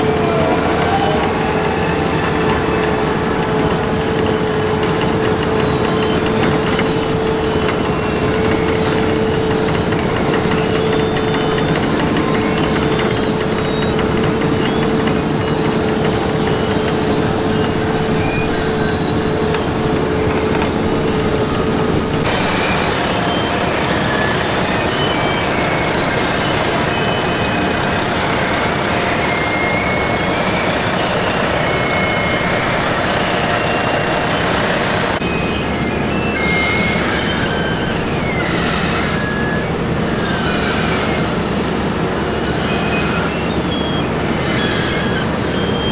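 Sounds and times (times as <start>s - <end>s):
mechanical whine: 0.0s - 45.9s
road paving machine engine rumble: 0.0s - 45.9s.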